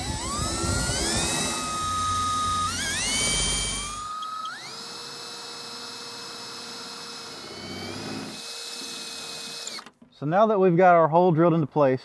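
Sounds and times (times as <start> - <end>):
cordless drill whining: 0.0 - 10.0.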